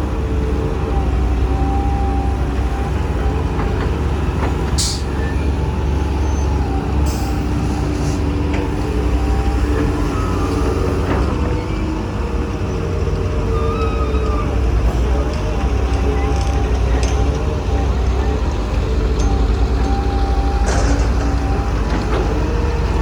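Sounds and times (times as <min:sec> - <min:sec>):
diesel machinery engine drone: 0:00.0 - 0:23.0.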